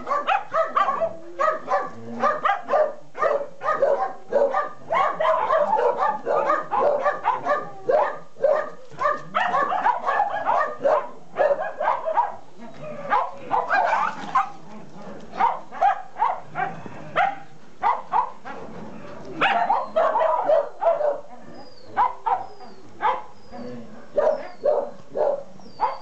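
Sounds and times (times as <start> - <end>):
dogs barking: 0.0 - 14.6, 15.3 - 18.7, 19.3 - 26.0.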